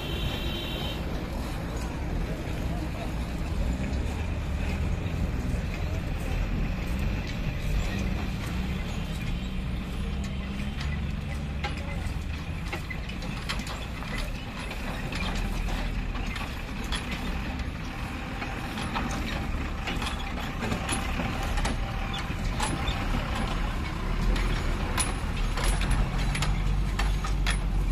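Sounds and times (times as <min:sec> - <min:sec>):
truck diesel engine rumbling: 0:00.0 - 0:27.9
truck body rattling: 0:00.1 - 0:27.9.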